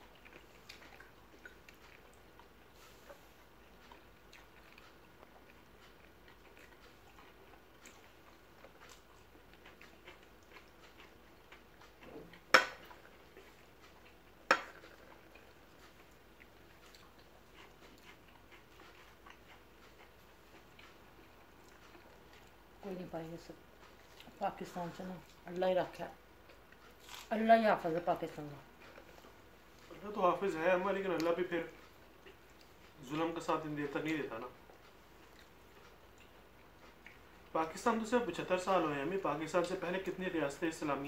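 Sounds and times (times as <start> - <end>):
faint chewing: 0.0 - 41.0.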